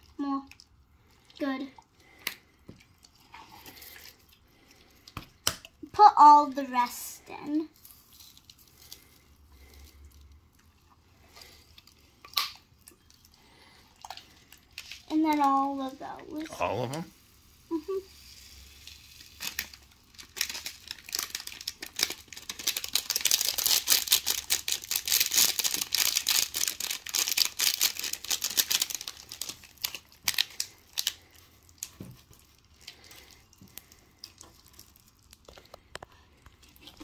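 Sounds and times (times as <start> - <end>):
slime crackling and crinkling: 1.4 - 17.1, 17.8 - 37.0.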